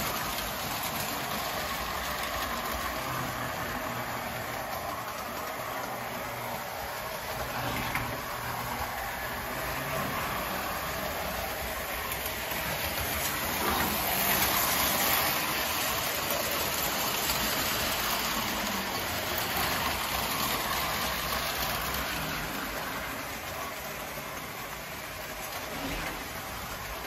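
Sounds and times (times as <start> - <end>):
toy train wheels on metal track: 0.0 - 27.0.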